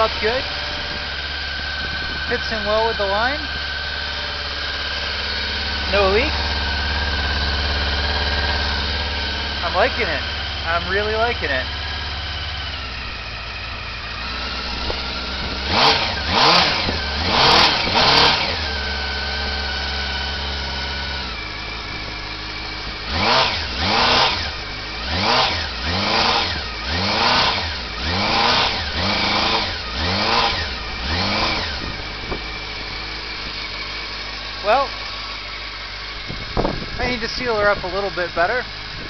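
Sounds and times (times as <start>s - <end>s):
motorcycle engine idling and revving: 0.0s - 39.0s.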